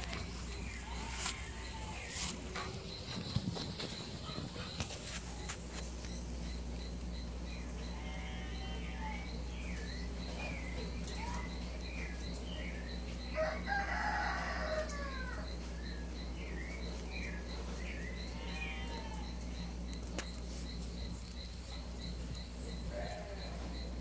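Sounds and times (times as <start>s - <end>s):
scattered bird chirping: 0.0s - 24.0s.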